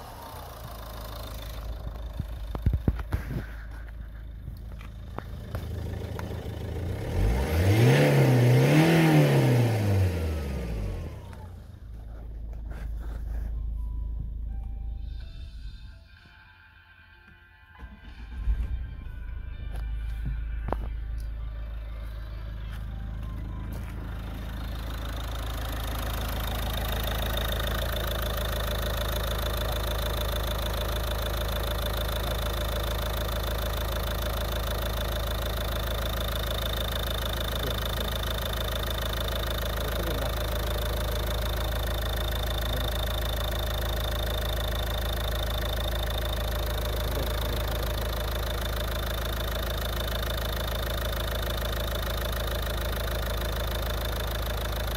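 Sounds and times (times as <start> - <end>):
diesel engine idling: 0.0 - 16.2, 17.7 - 54.9.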